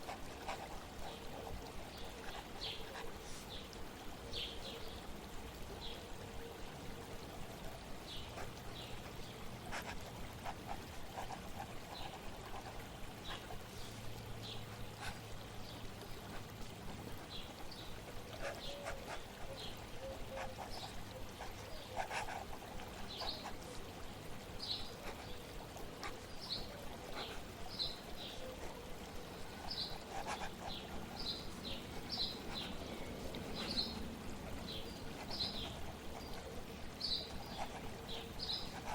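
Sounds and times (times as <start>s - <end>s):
birds chirping: 0.0s - 6.0s, 7.6s - 38.9s
flowing water: 0.0s - 38.9s.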